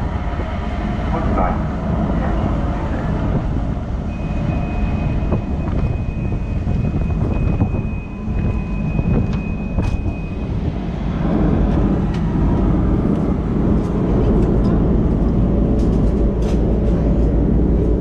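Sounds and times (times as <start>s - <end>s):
ferry engine rumble: 0.0s - 18.0s.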